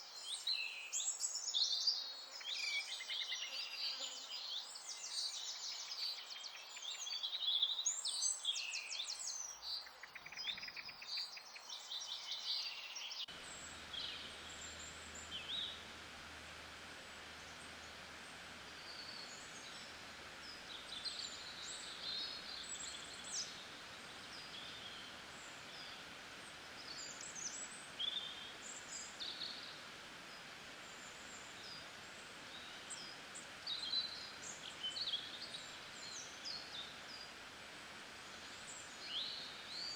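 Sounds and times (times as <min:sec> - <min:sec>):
steady hiss: 0:00.0 - 0:39.9
birds chirping: 0:00.1 - 0:37.4.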